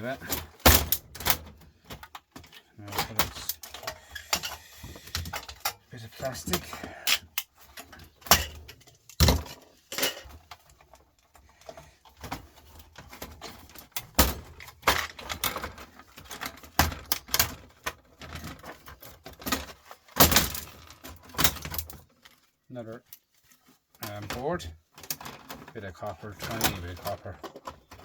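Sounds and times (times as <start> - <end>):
plastic and metal parts clattering: 0.0 - 28.0.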